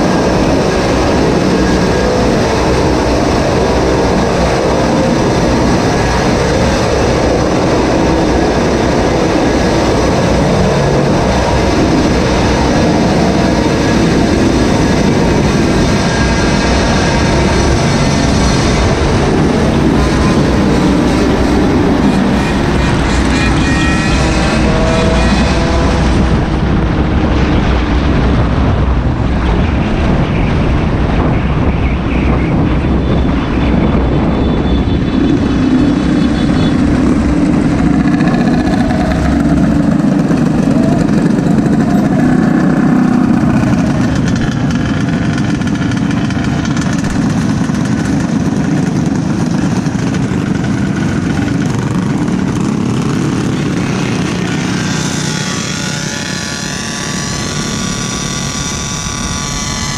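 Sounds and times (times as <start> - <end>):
small motorbike engine revving: 0.0 - 26.6, 35.5 - 59.9
steady rush of noise: 0.0 - 59.9.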